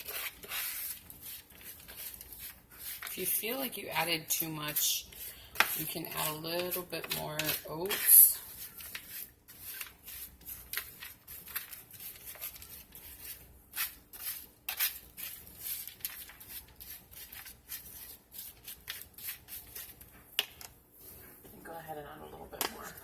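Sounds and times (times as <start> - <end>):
spoon scraping oats: 0.0 - 20.1.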